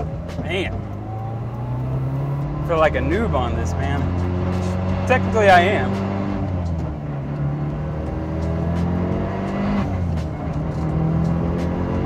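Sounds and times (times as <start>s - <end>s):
car engine accelerating from cabin: 0.0s - 12.0s.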